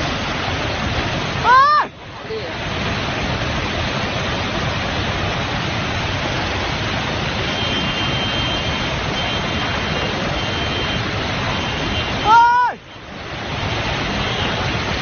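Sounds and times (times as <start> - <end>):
mudflow rushing roar: 0.0 - 15.0.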